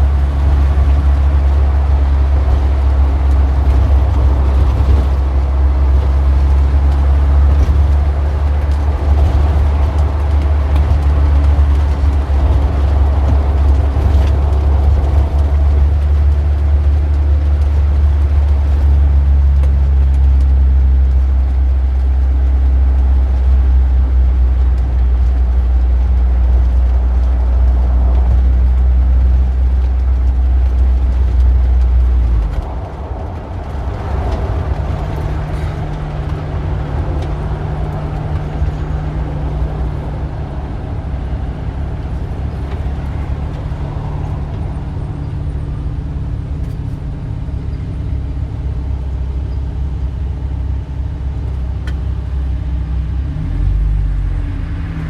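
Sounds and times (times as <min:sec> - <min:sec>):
vehicle engines rumbling: 0:00.0 - 0:55.0.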